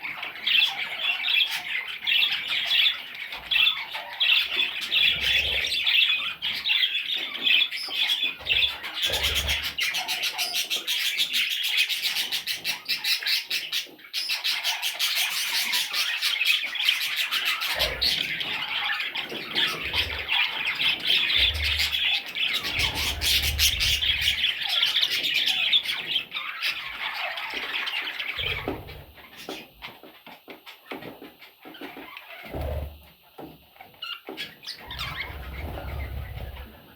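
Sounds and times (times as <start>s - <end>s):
budgerigars chattering and squawking: 0.0s - 36.9s.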